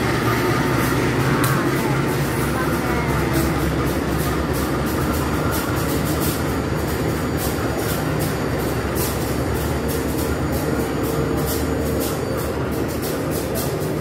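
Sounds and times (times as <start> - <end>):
train coaches rumbling past: 0.0 - 14.0.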